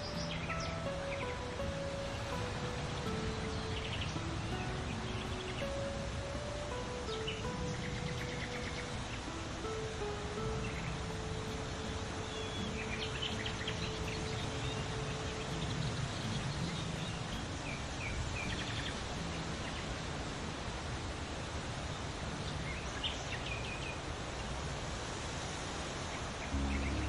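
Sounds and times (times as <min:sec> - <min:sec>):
small songbirds chirping: 0:00.0 - 0:20.4, 0:21.8 - 0:24.6, 0:26.1 - 0:27.0
steady rushing outdoor background: 0:00.0 - 0:27.0.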